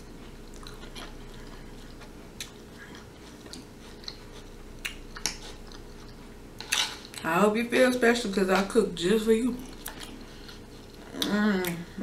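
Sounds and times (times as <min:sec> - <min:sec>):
person chewing food: 0:00.0 - 0:07.3, 0:09.5 - 0:12.0
faint steady hum: 0:00.0 - 0:12.0.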